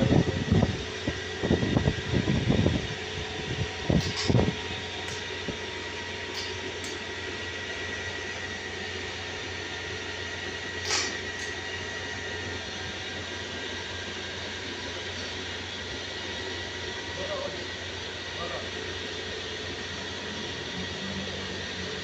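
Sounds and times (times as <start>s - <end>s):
mechanical hum with high whine: 0.0s - 22.0s.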